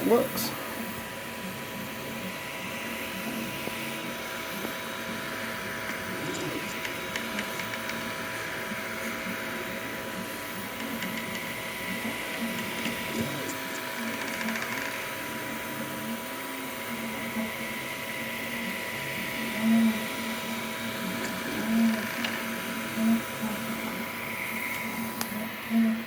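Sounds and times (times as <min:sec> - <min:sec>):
cooling fan hum: 0:00.0 - 0:26.0.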